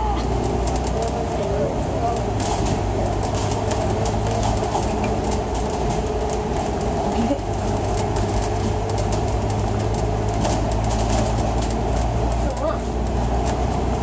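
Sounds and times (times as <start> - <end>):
bus engine drone: 0.0 - 14.0
road noise: 0.0 - 14.0
bodywork clicking rattles: 0.4 - 14.0.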